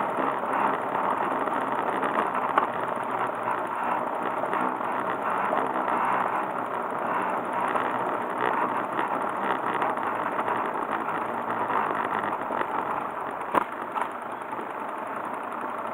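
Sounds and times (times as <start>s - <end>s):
motor engine running: 0.0s - 15.9s.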